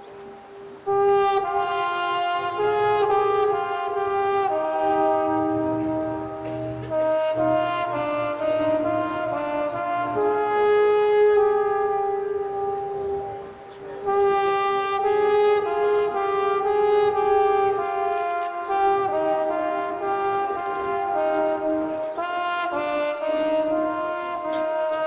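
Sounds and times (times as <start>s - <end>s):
brass band playing slow chords: 0.0s - 25.0s.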